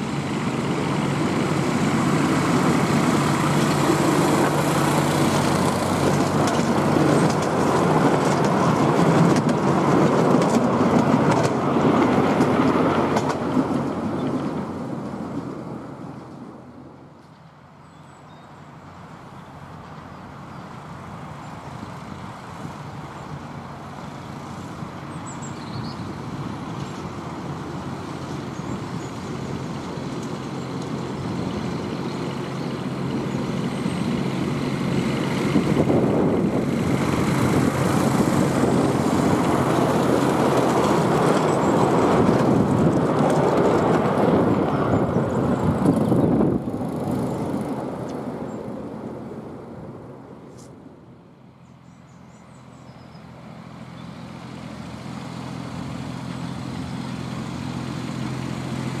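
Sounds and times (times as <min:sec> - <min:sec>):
miniature railway locomotive running: 0:00.0 - 0:17.8, 0:18.7 - 0:50.0.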